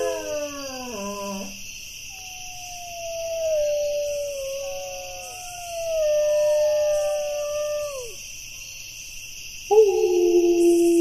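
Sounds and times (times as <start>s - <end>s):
dogs howling: 0.0s - 8.2s, 9.7s - 11.0s.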